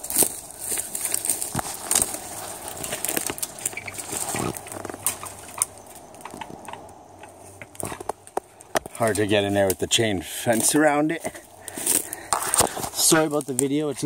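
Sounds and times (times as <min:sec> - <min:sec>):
twigs snapping: 0:00.0 - 0:09.9, 0:10.5 - 0:14.0
footsteps crunching dry leaves: 0:00.0 - 0:14.0.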